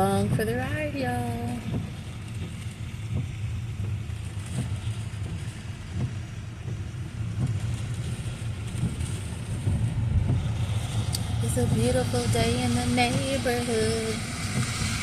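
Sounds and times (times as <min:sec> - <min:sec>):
road rumble in car cabin: 0:00.0 - 0:15.0.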